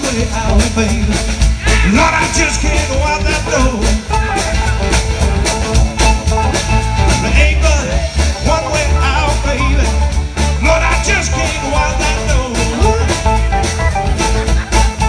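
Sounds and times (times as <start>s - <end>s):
upbeat song with singing: 0.0s - 15.0s.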